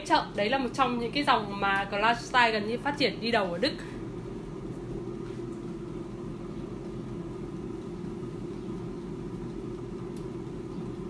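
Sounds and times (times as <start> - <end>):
air fryer fan humming: 0.0 - 11.0.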